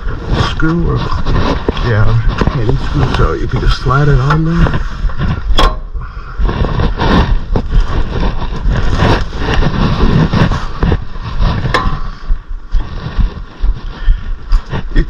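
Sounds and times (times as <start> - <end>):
metal clanks and scraping: 0.0 - 12.4
steady low rumble: 0.0 - 15.0.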